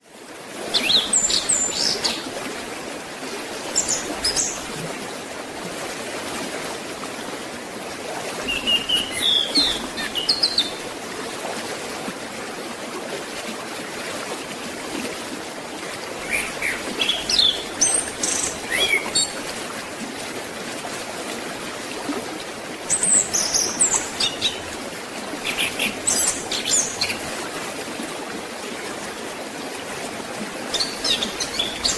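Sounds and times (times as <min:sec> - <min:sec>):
forest stream flowing: 0:00.0 - 0:31.9.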